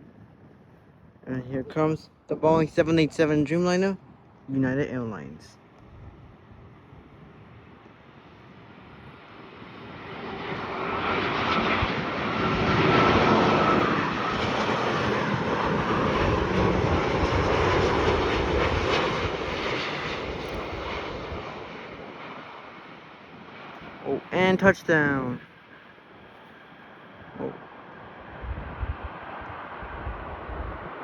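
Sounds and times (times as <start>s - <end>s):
jet airliner passing: 0.0s - 31.0s
jet engine whine: 0.0s - 31.0s.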